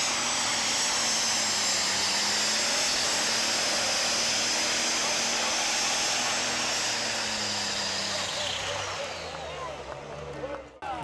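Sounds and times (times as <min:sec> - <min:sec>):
tractor engine at full throttle: 0:00.0 - 0:11.0.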